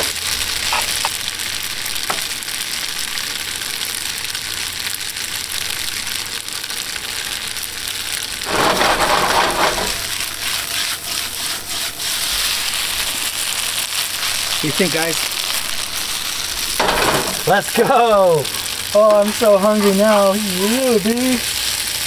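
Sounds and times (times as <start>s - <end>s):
pasta sizzling in a pan: 0.0s - 22.0s.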